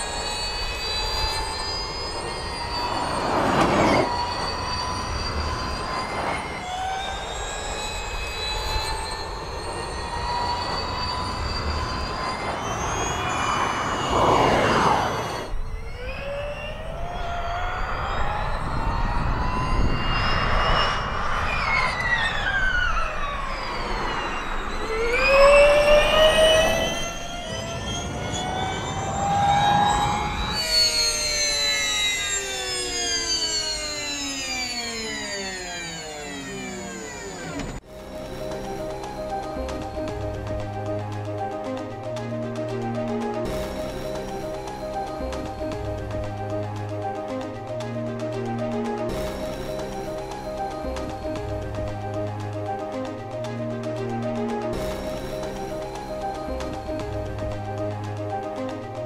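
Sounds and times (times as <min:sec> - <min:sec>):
electric race car whining: 0:00.0 - 0:53.2.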